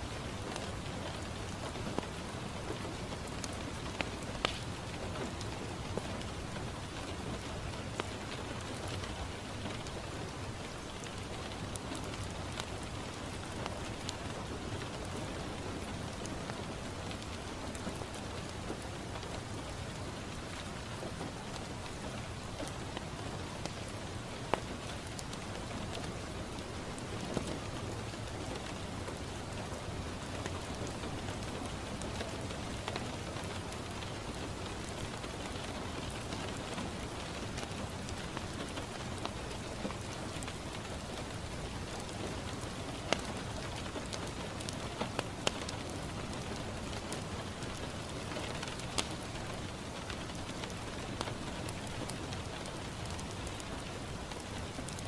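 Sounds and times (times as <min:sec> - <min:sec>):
rain on a window: 0:00.0 - 0:55.0
wood fire crackling: 0:00.0 - 0:55.0.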